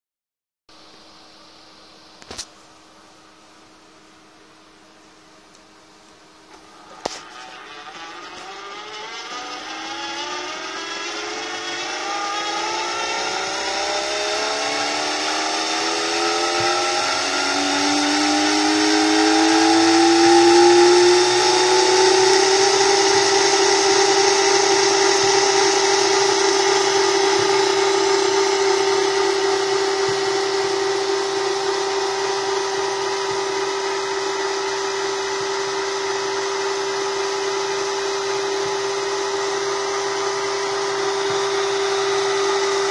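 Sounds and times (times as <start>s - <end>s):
stepper motor whining: 6.5s - 42.9s.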